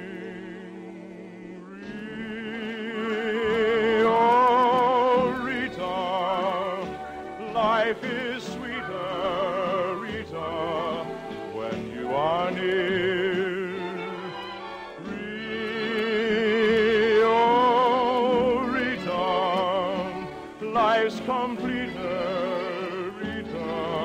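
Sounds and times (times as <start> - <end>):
operatic singing: 0.0 - 24.0
orchestra: 0.0 - 24.0.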